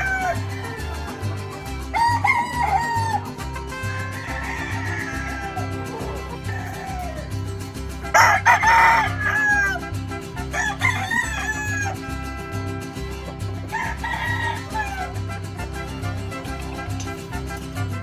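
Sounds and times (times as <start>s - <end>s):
roosters crowing: 0.0s - 18.0s.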